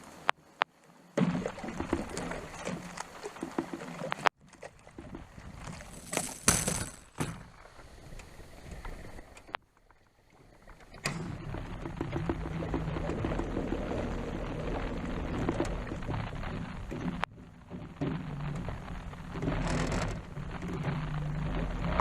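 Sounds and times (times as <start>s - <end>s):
water splashing around canoe hull: 1.1s - 22.0s.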